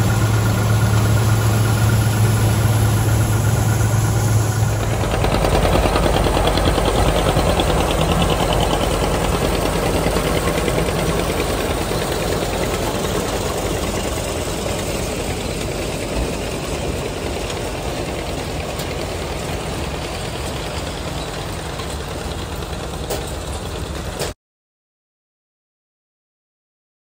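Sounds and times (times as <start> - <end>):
corn picker elevator clatter: 0.0 - 24.4
tractor engine under load: 0.0 - 24.4.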